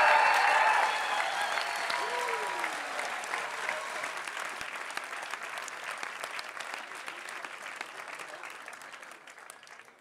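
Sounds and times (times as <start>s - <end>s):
large audience applauding: 0.0s - 10.0s.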